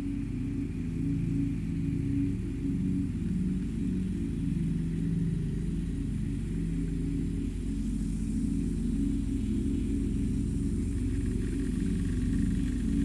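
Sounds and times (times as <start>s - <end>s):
low electronic drone: 0.0s - 13.0s.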